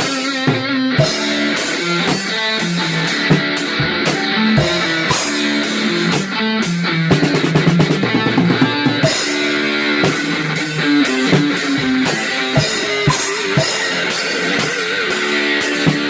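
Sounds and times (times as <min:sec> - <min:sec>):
guitar picking and strumming: 0:00.0 - 0:16.0.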